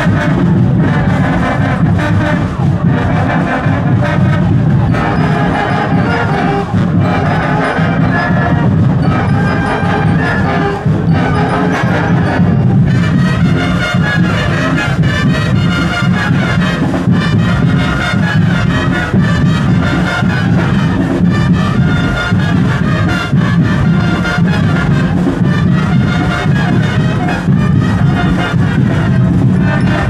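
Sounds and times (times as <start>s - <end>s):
marching band music: 0.0s - 30.0s.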